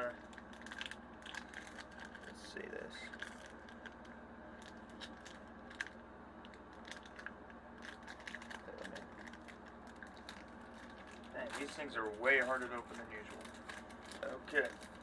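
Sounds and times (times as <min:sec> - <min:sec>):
foil wrapper crinkling and tearing: 0:00.2 - 0:02.4, 0:03.1 - 0:15.0.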